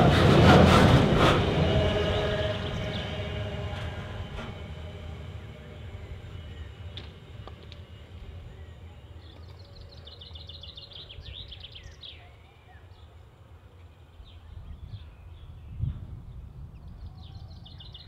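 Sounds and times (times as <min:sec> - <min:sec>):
freight train rumble: 0:00.0 - 0:18.0.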